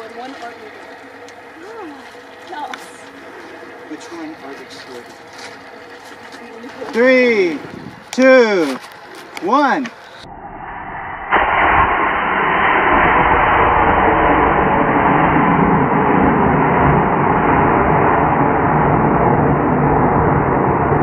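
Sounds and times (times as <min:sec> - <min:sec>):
rocket motor roaring: 0:00.0 - 0:21.0.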